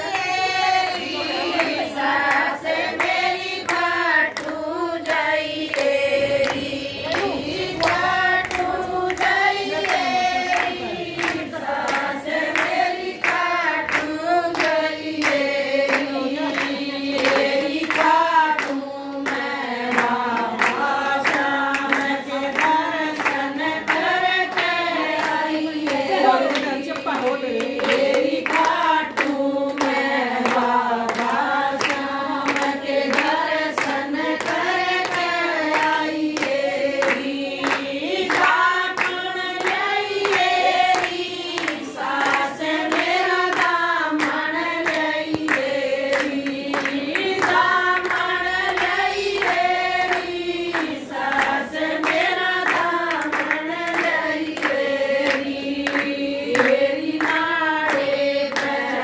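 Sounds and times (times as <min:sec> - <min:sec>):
rhythmic hand clapping: 0:00.0 - 0:59.0
women singing together: 0:00.0 - 0:59.0.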